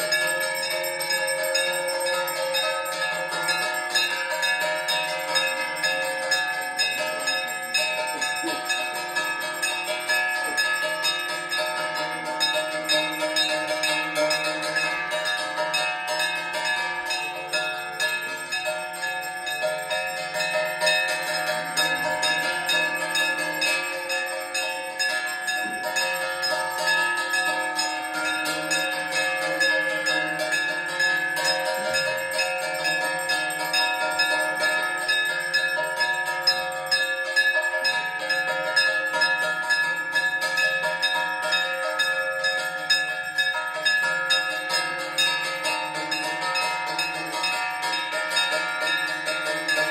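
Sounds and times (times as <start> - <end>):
temple bells ringing: 0.0 - 49.9.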